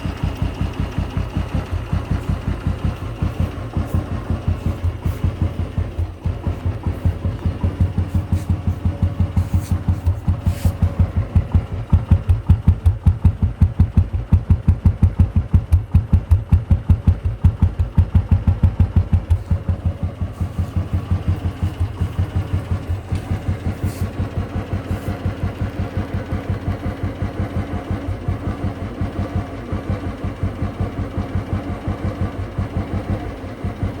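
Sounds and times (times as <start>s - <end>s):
motorcycle engine thumping: 0.0s - 34.0s.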